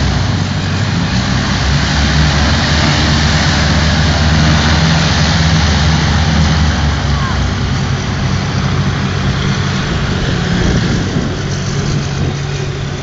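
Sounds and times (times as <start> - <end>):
hovercraft engine low hum: 0.0 - 13.0
rush of air: 0.0 - 13.0.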